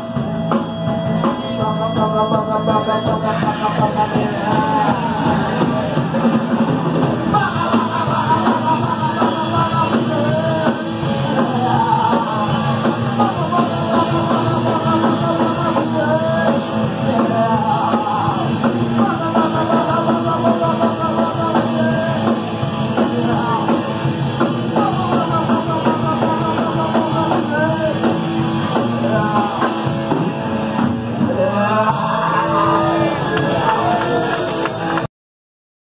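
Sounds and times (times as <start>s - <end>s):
live punk rock band: 0.0s - 35.1s.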